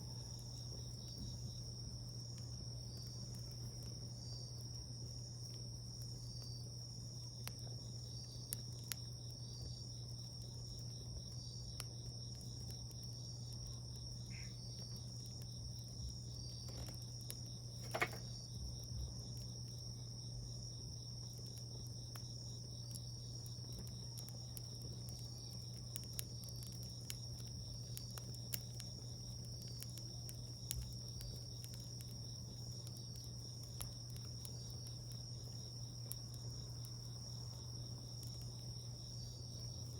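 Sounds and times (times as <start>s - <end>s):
wood fire crackling and popping: 0.0s - 39.9s
high-pitched insect trill: 6.1s - 39.9s.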